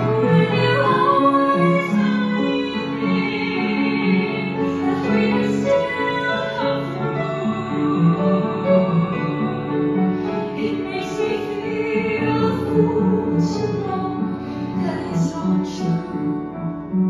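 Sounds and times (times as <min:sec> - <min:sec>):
piano accompaniment: 0:00.0 - 0:17.0.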